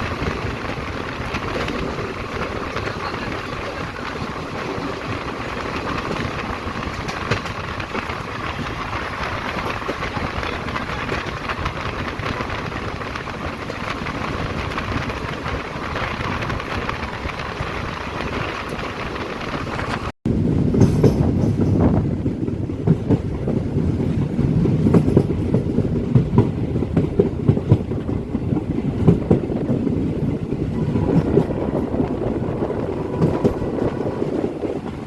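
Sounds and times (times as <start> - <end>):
train rumble and hiss: 0.0 - 35.0.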